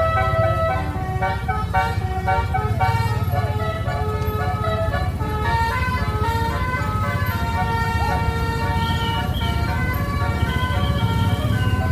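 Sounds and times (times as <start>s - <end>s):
bus engine rumbling: 0.0s - 11.9s
musical air horns playing tune: 0.0s - 11.9s.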